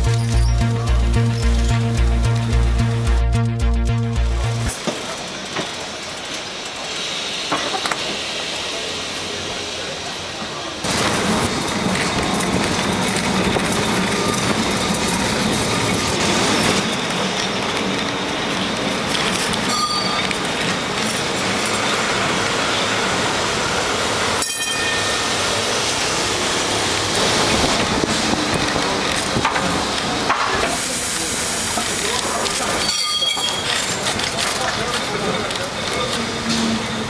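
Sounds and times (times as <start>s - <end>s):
tram rolling on rails: 4.0s - 37.0s.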